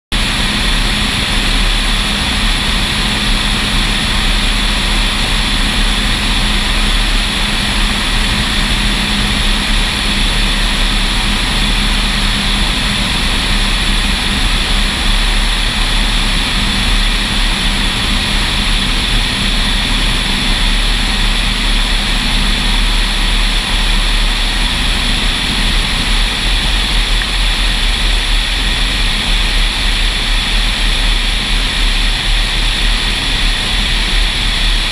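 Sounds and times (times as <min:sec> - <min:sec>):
propeller plane engine: 0:00.1 - 0:34.9.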